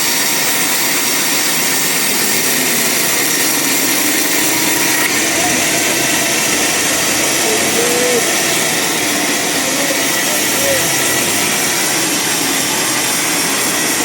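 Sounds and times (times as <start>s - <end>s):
band saw cutting log: 0.0s - 14.0s.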